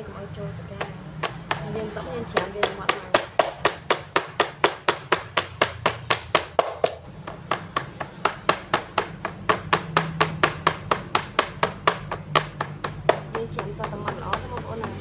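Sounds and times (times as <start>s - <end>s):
knife chopping on wooden board: 0.8s - 15.0s.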